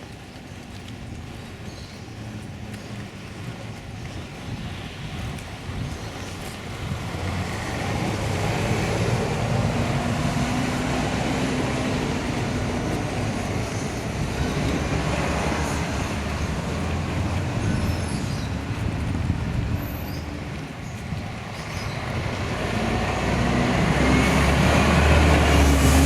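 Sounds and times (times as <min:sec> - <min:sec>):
road traffic passing: 0:04.7 - 0:26.0.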